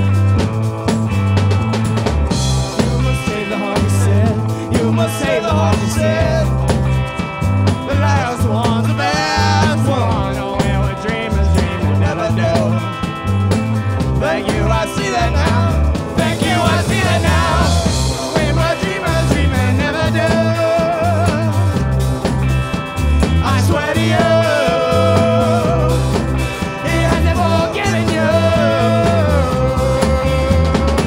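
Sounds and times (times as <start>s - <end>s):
rock band playing live: 0.0s - 31.0s.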